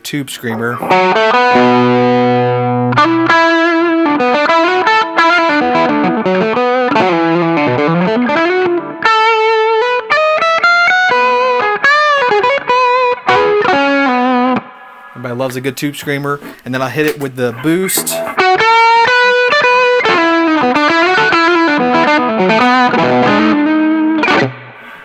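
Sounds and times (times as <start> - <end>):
overdriven electric guitar: 0.5 - 15.2, 17.5 - 25.0.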